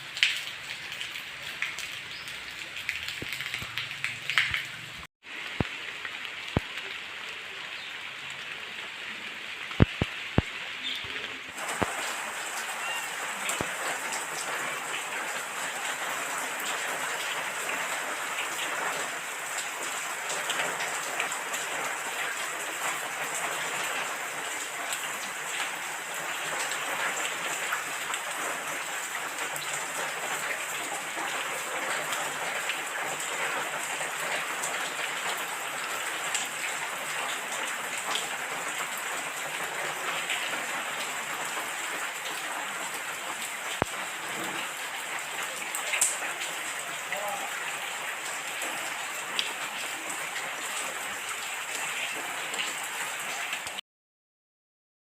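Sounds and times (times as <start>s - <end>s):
rain pattering: 0.0s - 53.8s.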